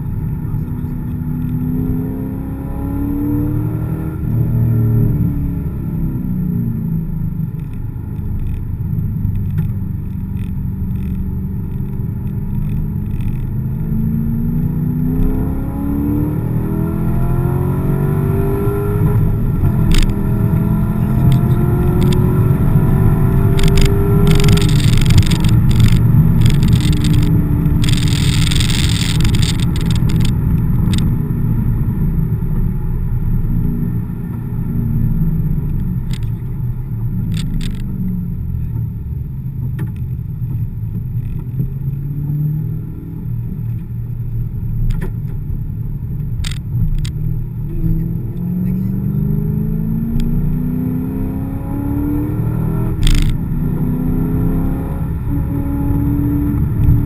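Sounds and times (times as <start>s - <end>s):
car engine at speed: 0.0s - 57.0s.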